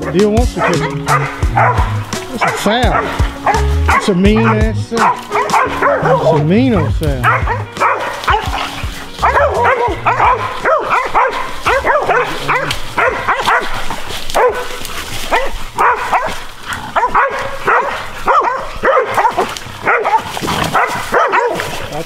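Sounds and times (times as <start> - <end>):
dogs barking: 0.0 - 22.0.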